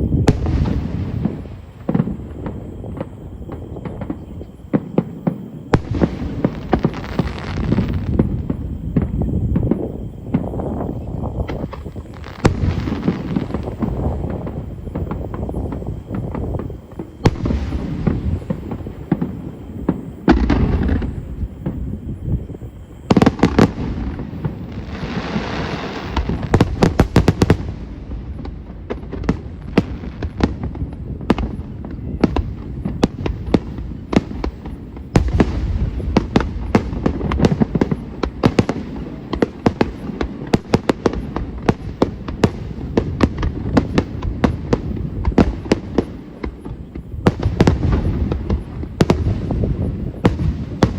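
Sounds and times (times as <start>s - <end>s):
fireworks booming: 0.0s - 50.9s
fireworks crackling: 0.0s - 50.9s.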